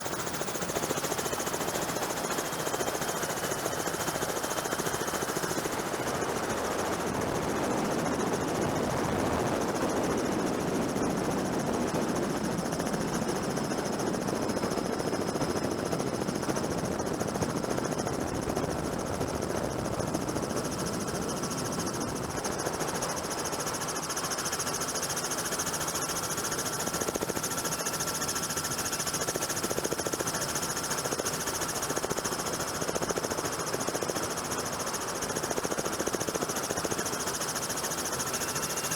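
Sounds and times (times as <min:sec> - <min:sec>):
faint turbine whine: 0:00.0 - 0:38.9
helicopter rotor chop: 0:00.0 - 0:38.9.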